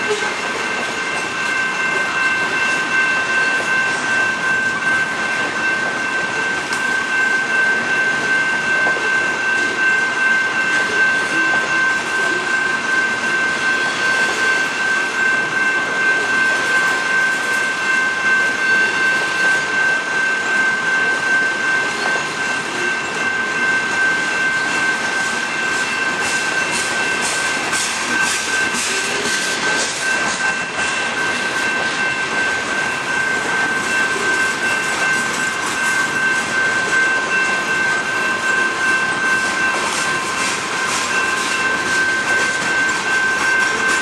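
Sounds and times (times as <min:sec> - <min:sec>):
freight train wheels rumbling: 0:00.0 - 0:44.0
high-pitched ringing tone: 0:00.0 - 0:44.0.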